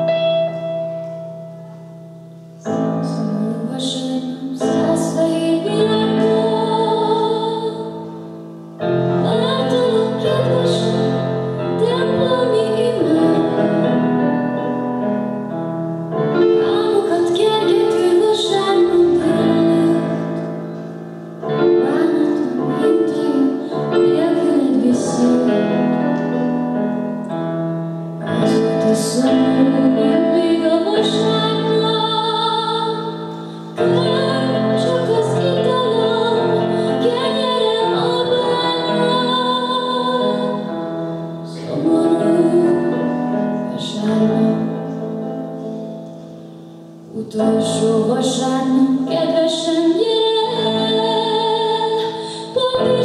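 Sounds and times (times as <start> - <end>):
digital piano chords: 0.0 - 53.0
woman singing: 2.6 - 8.2, 9.1 - 14.8, 16.4 - 20.6, 21.5 - 26.6, 28.2 - 40.8, 41.4 - 45.4, 47.1 - 53.0.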